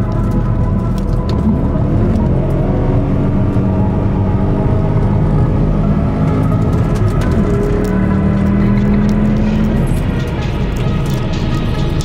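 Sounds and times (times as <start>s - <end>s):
car engine heard from inside: 0.0s - 12.0s.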